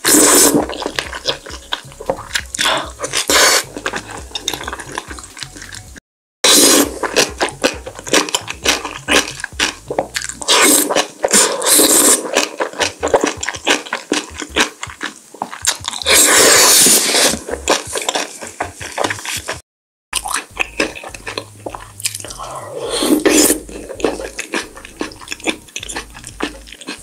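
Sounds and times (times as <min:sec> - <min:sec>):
slurping and chewing noodles: 0:00.0 - 0:19.6, 0:20.2 - 0:27.0.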